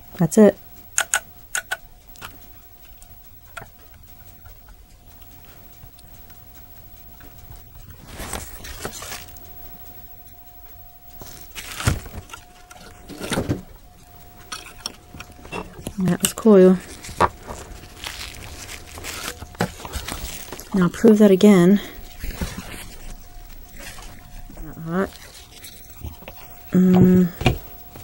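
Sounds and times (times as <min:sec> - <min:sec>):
faint high whine: 0:00.0 - 0:28.0
rustling of test leads: 0:00.0 - 0:28.0.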